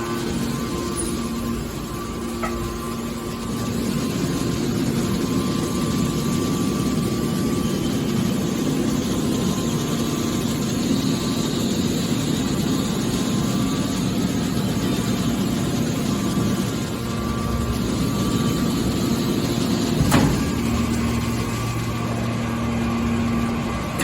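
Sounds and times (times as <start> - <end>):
can baler machine humming: 0.0 - 24.0.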